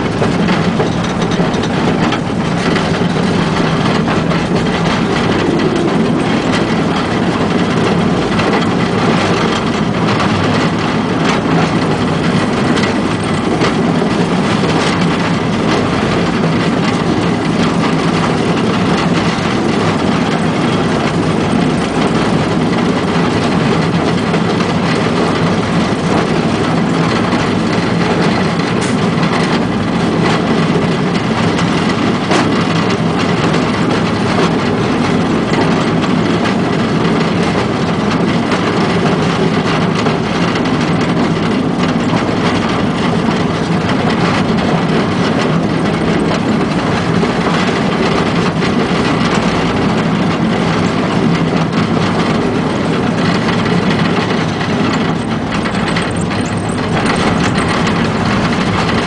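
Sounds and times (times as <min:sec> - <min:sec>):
train running on track: 0:00.0 - 0:59.0
wheels clicking over rail joints: 0:00.0 - 0:59.0.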